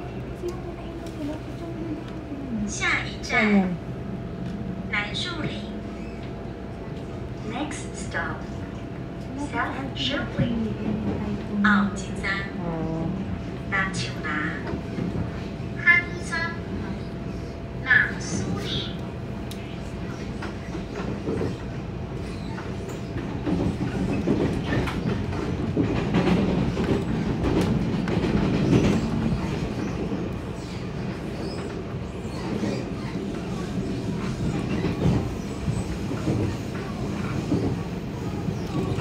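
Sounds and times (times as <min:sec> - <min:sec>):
train rumble inside carriage: 0:00.0 - 0:39.0.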